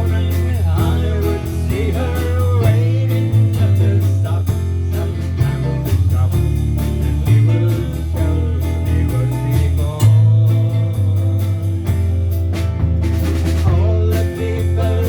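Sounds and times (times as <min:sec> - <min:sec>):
bass line: 0:00.0 - 0:15.0
guitar: 0:00.0 - 0:15.0
steady drum beat: 0:00.0 - 0:15.0.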